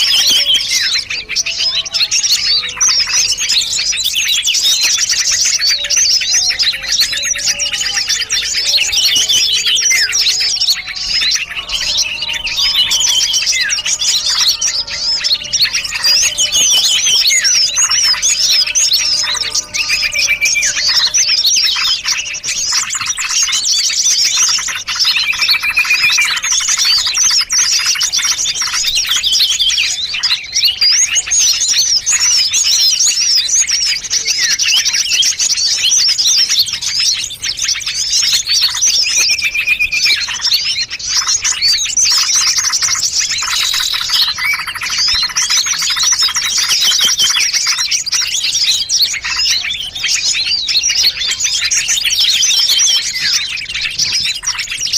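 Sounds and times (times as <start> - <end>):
bird trills: 0.0 - 54.9
songbirds chirping and twittering: 0.0 - 54.9.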